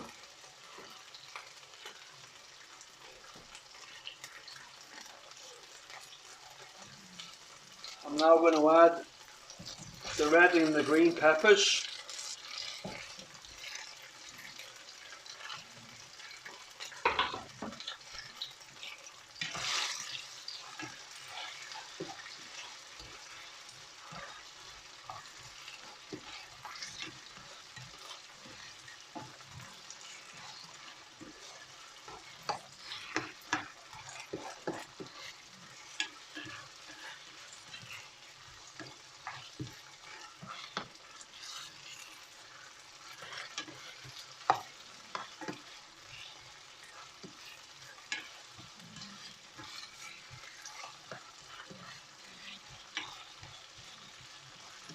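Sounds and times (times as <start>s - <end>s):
utensil stirring in a pan: 0.0s - 54.9s
vegetables sizzling in a pan: 0.0s - 54.9s.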